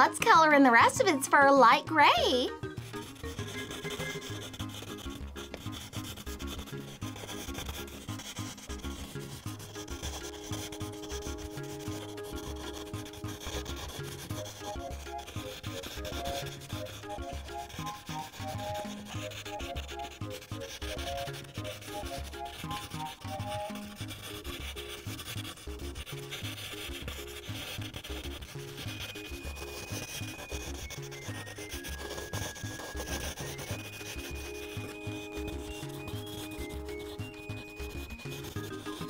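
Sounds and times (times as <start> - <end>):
colored pencil scratching on paper: 0.0 - 39.0
soft background music with beat: 0.0 - 39.0.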